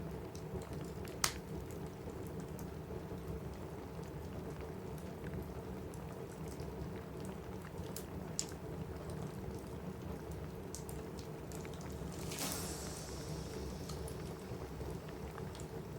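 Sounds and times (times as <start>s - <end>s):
rain on a roof: 0.2s - 15.9s
wood fire crackling: 0.2s - 15.9s.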